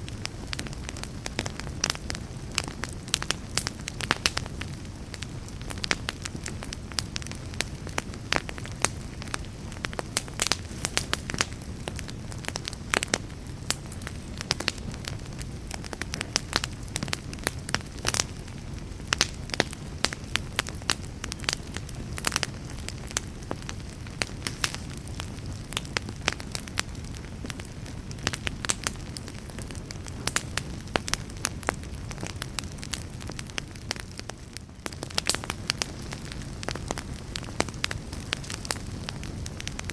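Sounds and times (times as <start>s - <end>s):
fire crackles and pops: 0.0s - 39.9s
wood fire rumbling: 0.0s - 39.9s.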